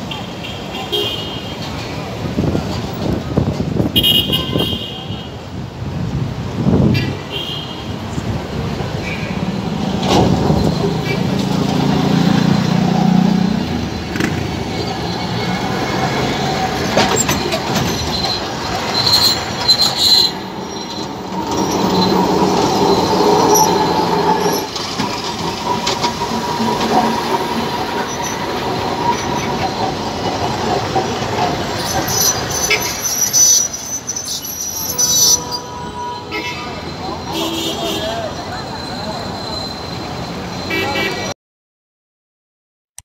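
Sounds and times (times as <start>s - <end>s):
tram wheels rumbling on rails: 0.0s - 41.3s
high squeal of tram wheels: 6.8s - 41.4s.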